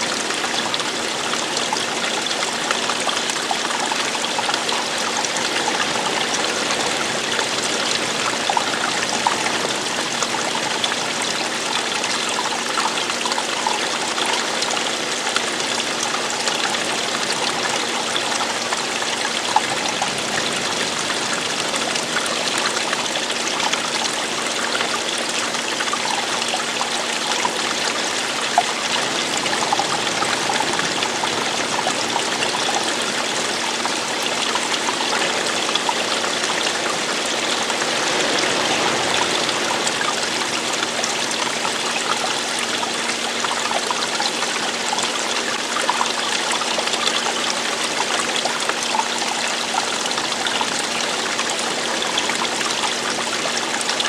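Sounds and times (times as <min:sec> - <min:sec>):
stream babbling and splashing: 0:00.0 - 0:54.0.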